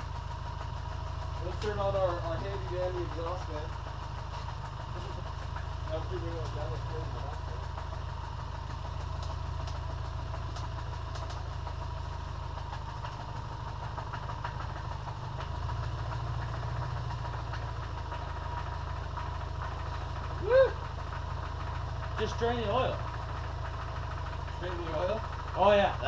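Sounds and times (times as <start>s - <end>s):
car engine idling with knock: 0.0s - 26.0s.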